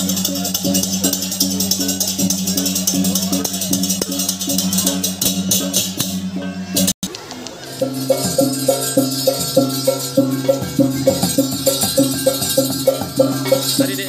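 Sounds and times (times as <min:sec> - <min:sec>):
small gongs struck fast: 0:00.0 - 0:06.9, 0:07.7 - 0:14.0
cymbals jingling: 0:00.0 - 0:07.0, 0:07.6 - 0:14.0.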